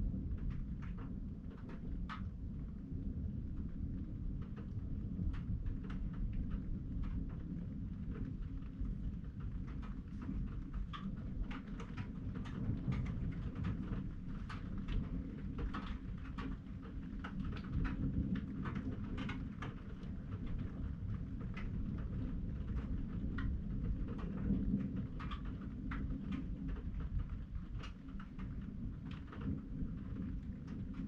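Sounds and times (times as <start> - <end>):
raindrops ticking: 0.2 - 31.0.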